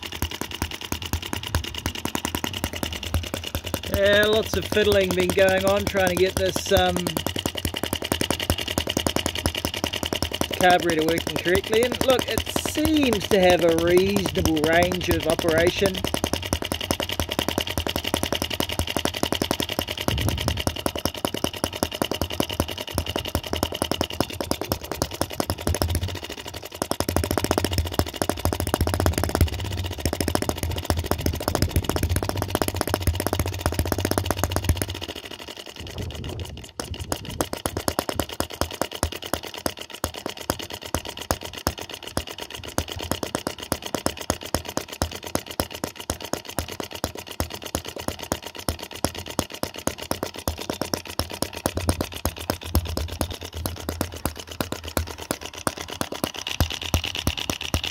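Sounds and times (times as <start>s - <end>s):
model engine running: 0.0s - 57.9s.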